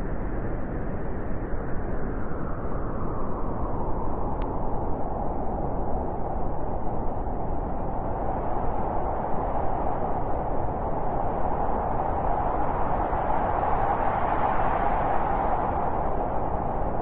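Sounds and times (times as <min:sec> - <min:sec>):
wind whistling tone: 0:00.0 - 0:17.0.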